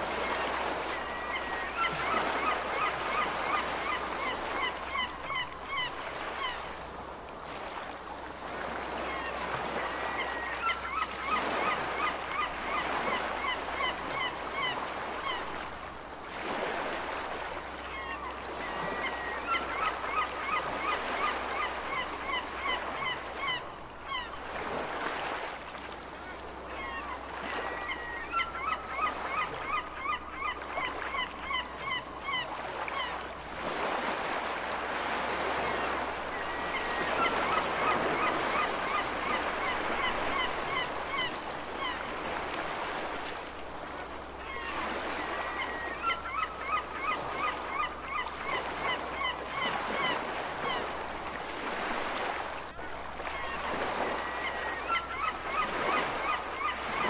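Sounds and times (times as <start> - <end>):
sea waves: 0.0 - 57.0
gulls calling: 0.1 - 6.7, 9.0 - 15.4, 17.8 - 24.4, 26.6 - 34.4, 35.0 - 43.1, 44.4 - 51.0, 51.6 - 57.0.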